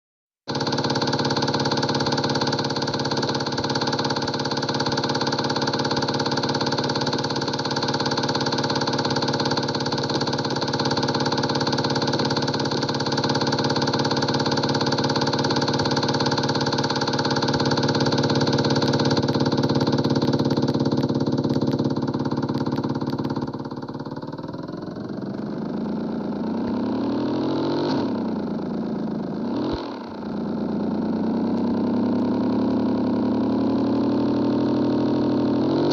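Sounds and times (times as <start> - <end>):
motorcycle engine without muffler: 0.4 - 35.9.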